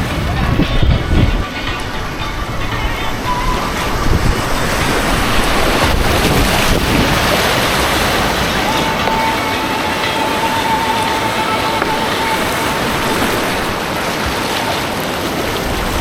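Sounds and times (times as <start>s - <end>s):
thin steady tone: 0.0s - 15.6s
rushing white water: 0.0s - 16.0s
wind buffeting microphone: 0.0s - 16.0s.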